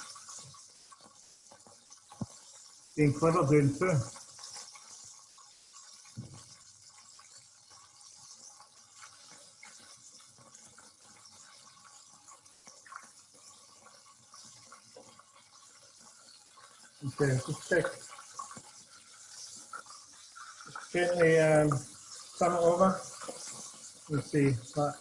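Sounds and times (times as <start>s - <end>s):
chicken deep-frying in hot oil: 0.0s - 25.0s.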